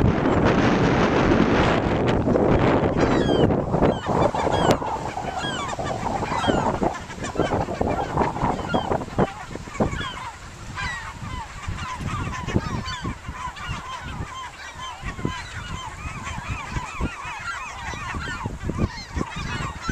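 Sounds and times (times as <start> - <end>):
wind buffeting microphone: 0.0 - 19.9
flock of seabirds calling: 1.8 - 19.9.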